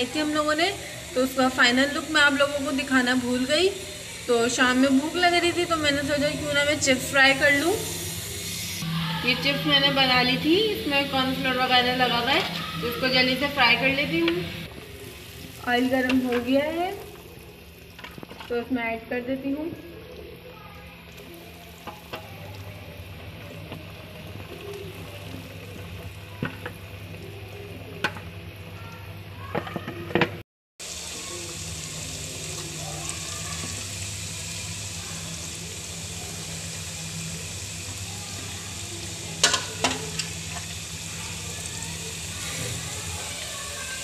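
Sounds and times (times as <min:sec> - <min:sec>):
chips sizzling in hot oil: 0:00.0 - 0:28.8, 0:30.8 - 0:44.0.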